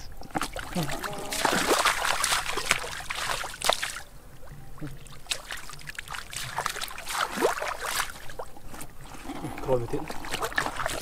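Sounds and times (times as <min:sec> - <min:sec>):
water dripping: 0:00.0 - 0:09.0
feet splashing through muddy water: 0:00.2 - 0:04.1, 0:04.8 - 0:11.0.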